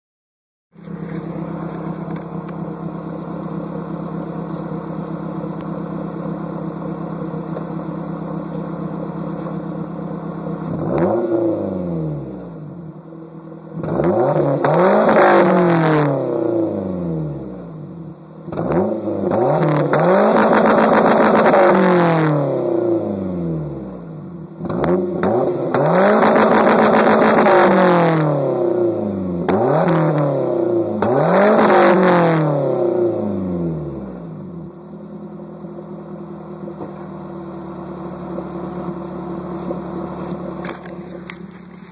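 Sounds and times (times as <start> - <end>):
car engine idling and revving: 0.7 - 41.9.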